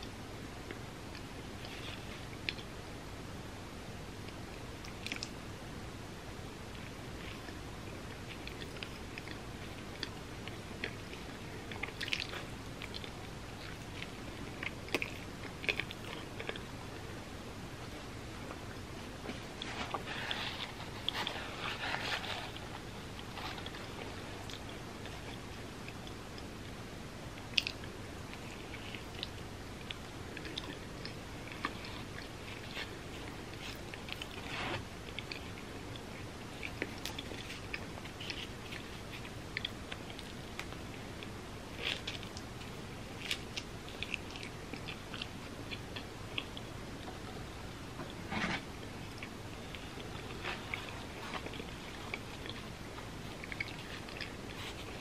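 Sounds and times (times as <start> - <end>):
person chewing pizza: 6.7 - 16.7, 17.8 - 26.5, 27.4 - 47.3, 48.3 - 55.0.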